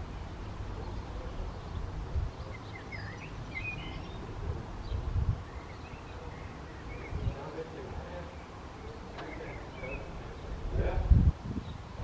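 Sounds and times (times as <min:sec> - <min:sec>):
bird chirps: 0:00.1 - 0:07.6, 0:08.2 - 0:10.6.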